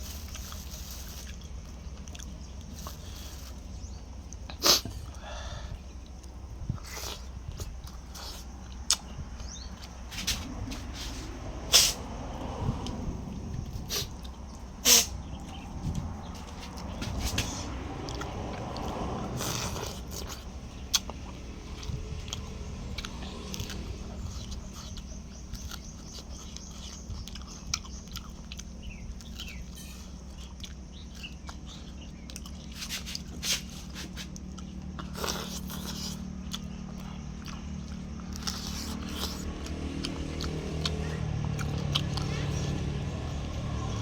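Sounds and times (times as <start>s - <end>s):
person chewing crunchy food: 0.0s - 44.0s
steady low hum: 0.0s - 44.0s.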